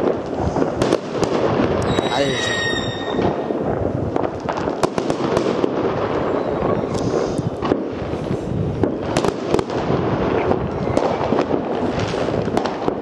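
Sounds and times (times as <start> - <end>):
distant fireworks bangs and crackling: 0.0 - 13.0
near fireworks bangs: 0.0 - 13.0.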